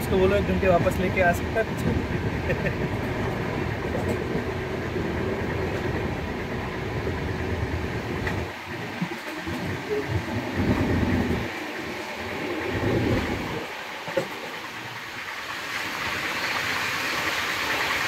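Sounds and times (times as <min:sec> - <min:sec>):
train coaches rumbling: 0:00.0 - 0:18.0.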